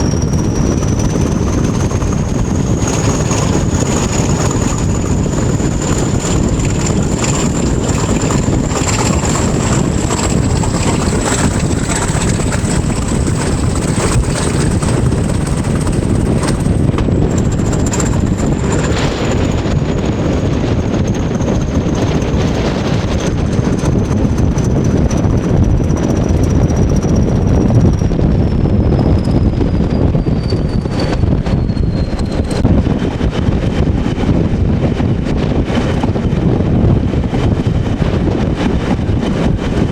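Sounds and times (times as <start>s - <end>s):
diesel locomotive engine: 0.0s - 39.9s.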